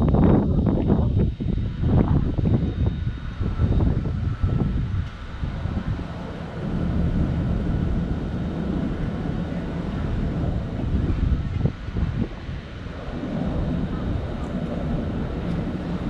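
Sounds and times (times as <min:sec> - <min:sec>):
faint outdoor background noise: 0:00.0 - 0:16.0
wind buffeting microphone: 0:00.0 - 0:16.0.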